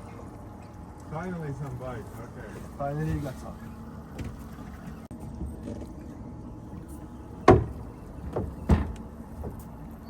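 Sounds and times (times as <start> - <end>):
water sloshing around boat: 0.0 - 10.0.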